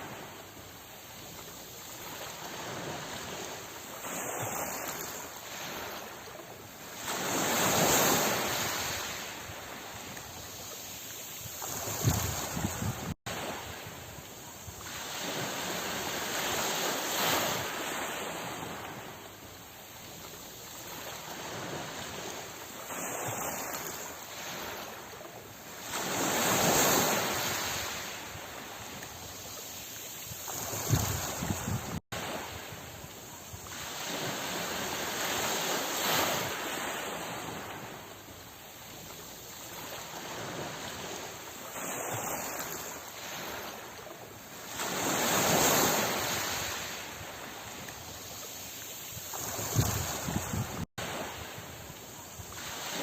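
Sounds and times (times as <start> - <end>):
sea waves washing in: 0.0 - 53.0
wind: 0.0 - 53.0.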